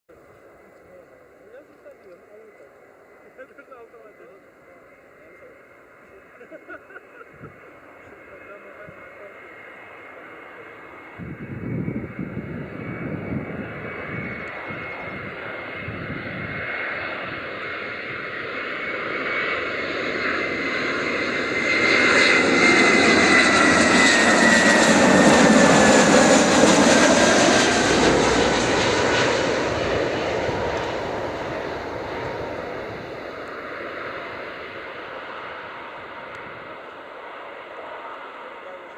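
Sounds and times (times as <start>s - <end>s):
jet airliner roaring past: 0.2s - 38.9s.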